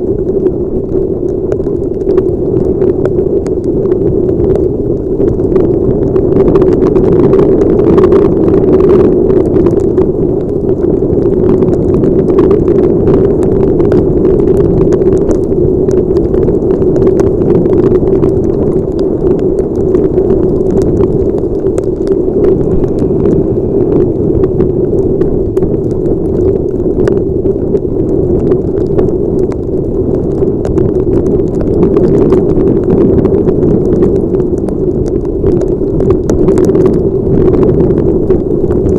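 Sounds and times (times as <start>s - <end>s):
heavy rain and wind rushing: 0.0s - 38.9s
raindrops ticking on helmet: 0.0s - 38.9s.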